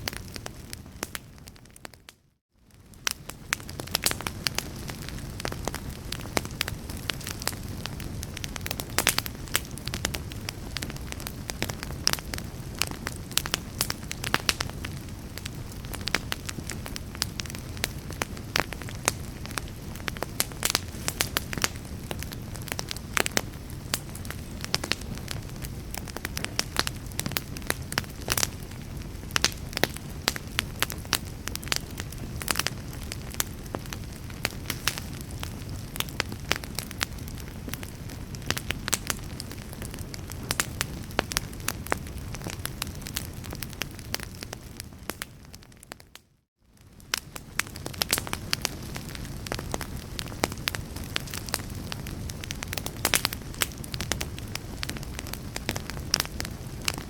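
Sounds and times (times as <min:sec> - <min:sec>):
wood fire crackling in fireplace: 0:00.0 - 0:57.0.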